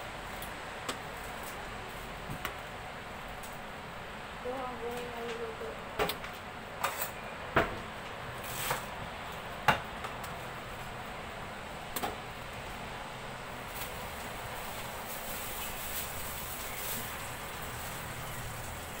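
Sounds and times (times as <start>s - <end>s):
leaves rustling: 0.0s - 7.3s, 7.9s - 9.6s, 10.3s - 19.0s.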